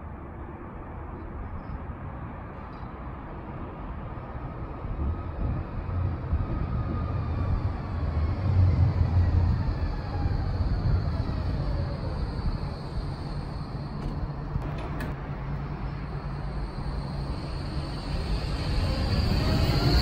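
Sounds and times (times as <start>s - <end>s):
tram rumbling: 0.0s - 20.0s.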